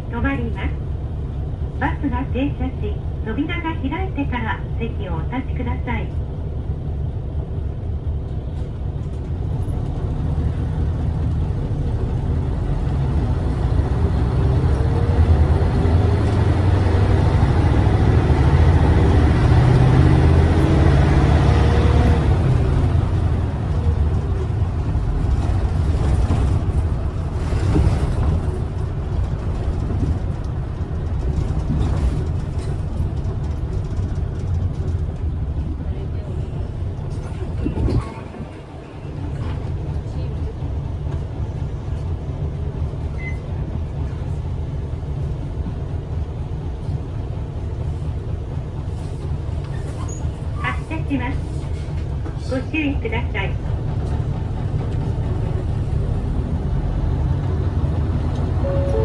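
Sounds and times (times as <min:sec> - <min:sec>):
bus diesel engine accelerating: 0:00.0 - 0:59.0
bus body rattling: 0:07.4 - 0:44.2, 0:46.5 - 0:53.0, 0:53.6 - 0:59.0.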